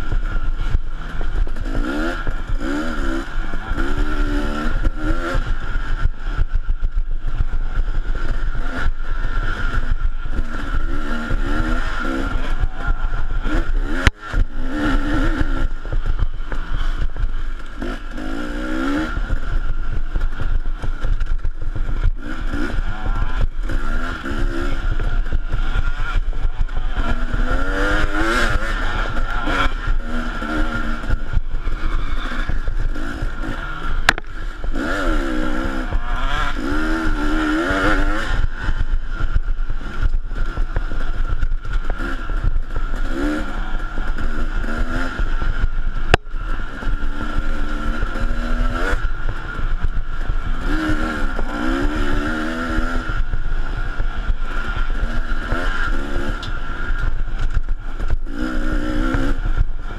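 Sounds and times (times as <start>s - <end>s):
dirt bike engine revving: 0.0s - 59.9s
mechanical whine and rattle: 0.0s - 59.9s.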